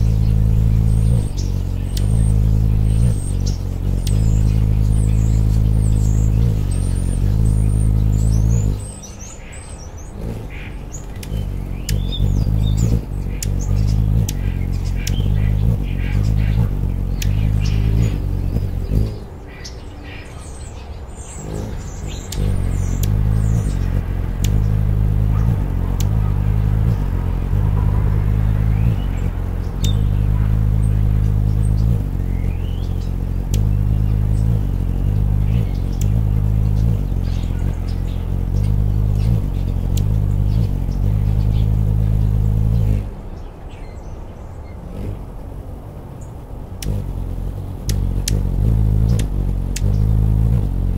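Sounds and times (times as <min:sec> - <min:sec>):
high bird chirps: 0:00.0 - 0:45.2, 0:46.2 - 0:50.9
hummingbird wings buzzing hum: 0:00.0 - 0:50.9.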